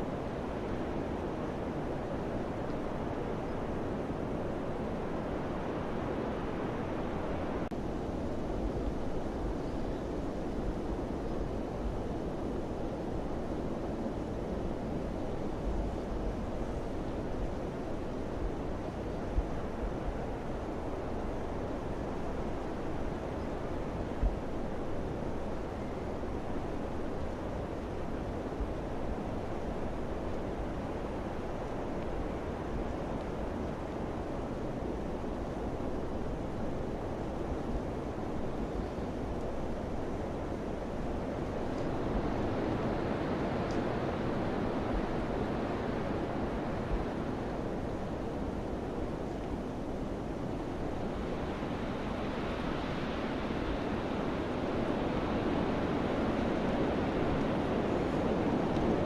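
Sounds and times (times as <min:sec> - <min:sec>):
low rushing wind: 0:00.0 - 0:59.0.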